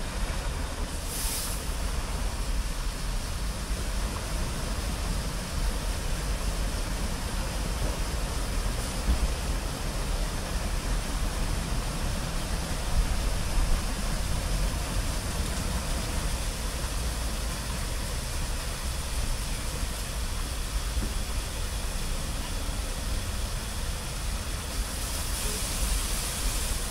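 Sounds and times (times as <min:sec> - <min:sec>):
car wash machinery rumble: 0:00.0 - 0:26.9
water spray hissing: 0:00.1 - 0:26.9.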